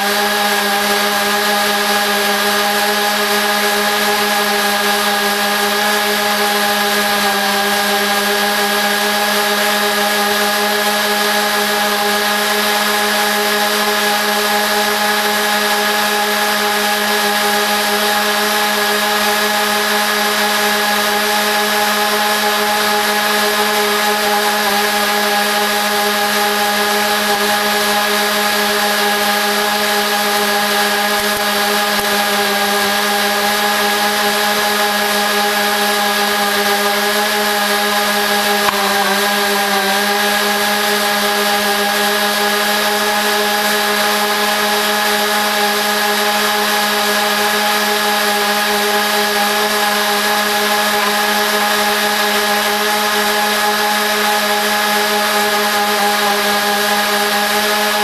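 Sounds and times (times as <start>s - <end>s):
sped-up lawn mower engine buzz: 0.0s - 58.0s.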